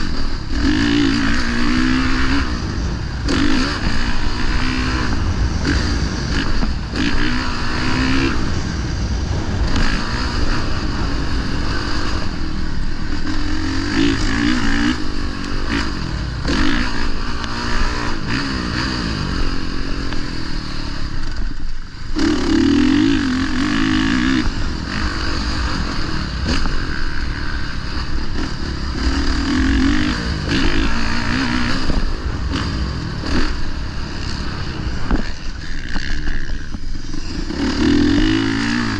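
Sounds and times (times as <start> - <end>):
dirt bike engine revving: 0.0 - 38.9
steady rushing noise: 0.0 - 38.9.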